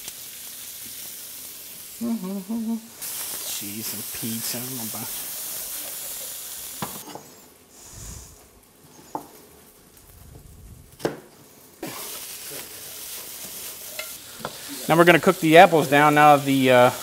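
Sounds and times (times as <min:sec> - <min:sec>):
onions sizzling in a frying pan: 0:00.0 - 0:17.0.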